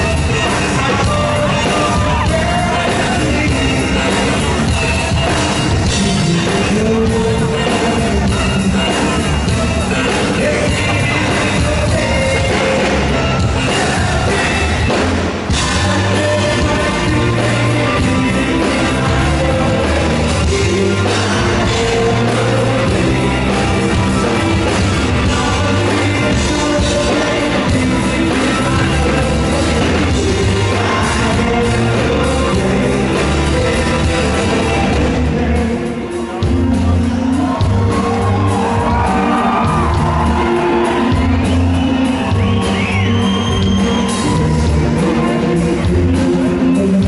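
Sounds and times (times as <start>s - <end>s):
lead vocal singing: 0.0s - 47.0s
live rock band playing: 0.0s - 47.0s.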